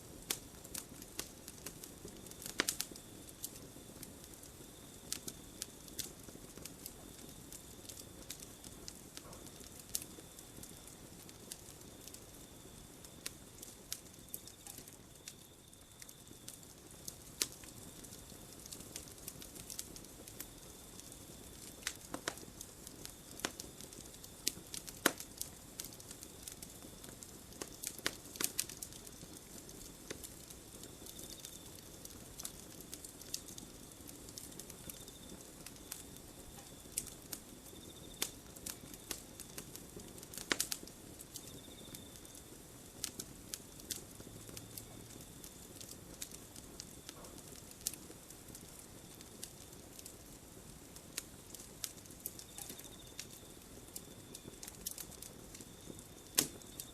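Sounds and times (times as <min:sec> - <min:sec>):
campfire crackling and popping: 0:00.0 - 0:56.9
hiss of flames: 0:00.0 - 0:56.9.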